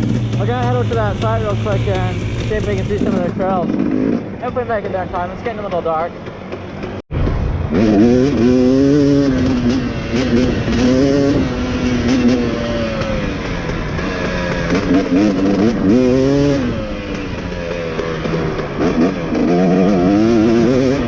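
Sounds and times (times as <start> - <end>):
dirt bike engine revving: 0.0 - 7.0, 7.6 - 21.0.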